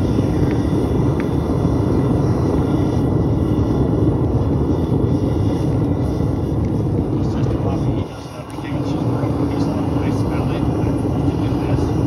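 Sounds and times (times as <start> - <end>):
furnace burner deep rumble: 0.0 - 12.0.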